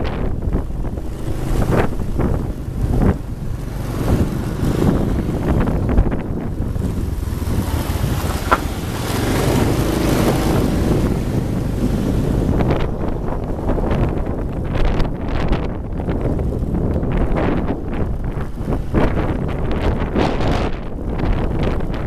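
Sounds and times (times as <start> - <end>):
motorbike engine rumble: 0.0 - 22.0
road noise: 0.0 - 22.0
wind buffeting microphone: 0.0 - 22.0.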